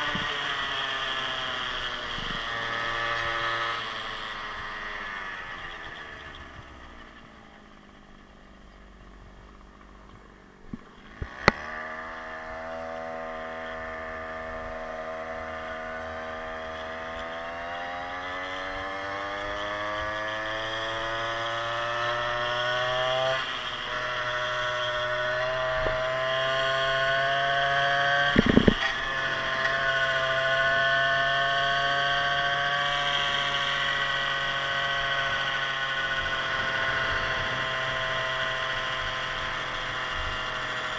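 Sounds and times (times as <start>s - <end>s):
scooter two-stroke engine: 0.0s - 40.9s.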